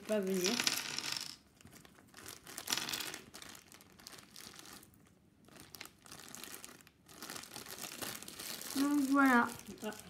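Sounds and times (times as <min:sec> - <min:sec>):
plastic packaging crinkling: 0:01.6 - 0:10.0.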